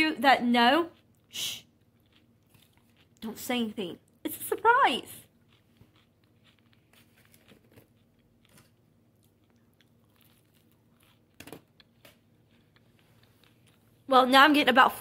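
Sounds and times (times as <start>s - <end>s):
food crunching: 0.5s - 14.1s
person chewing food: 0.8s - 14.1s.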